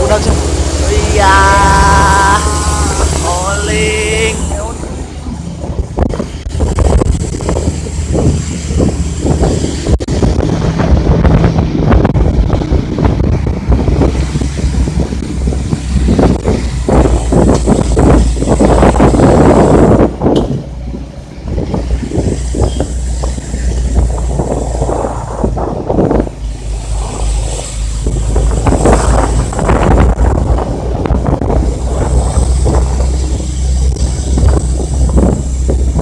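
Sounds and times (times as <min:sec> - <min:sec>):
vehicle road noise drone: 0:00.0 - 0:36.0
wind buffeting microphone: 0:00.0 - 0:36.0.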